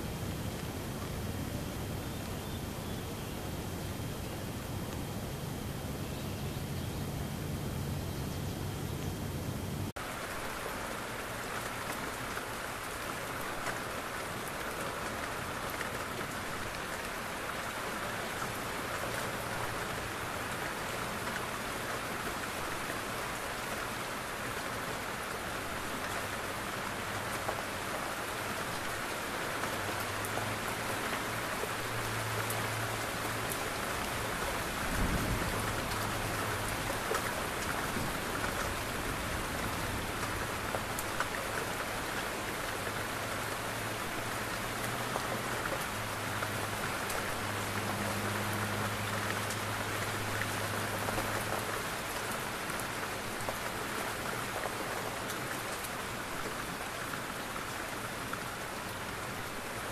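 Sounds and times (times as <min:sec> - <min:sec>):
soft rain on wet pavement: 0:00.0 - 0:59.9.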